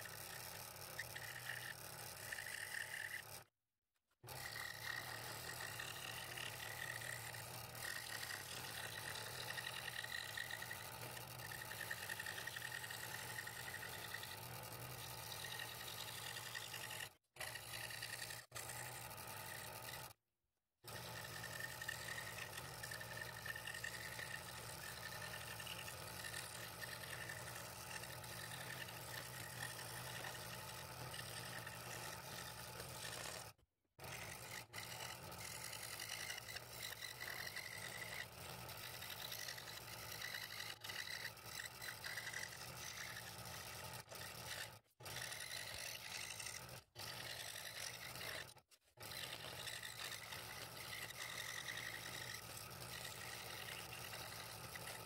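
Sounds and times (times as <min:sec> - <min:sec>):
scroll saw cutting wood: 0:00.0 - 0:20.2, 0:20.8 - 0:55.0.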